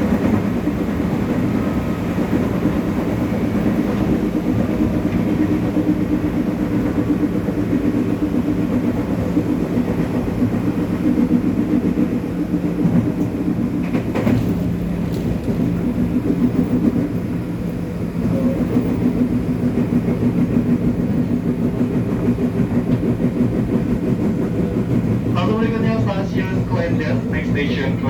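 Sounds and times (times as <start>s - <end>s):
wheels rumbling on rails: 0.0s - 28.0s.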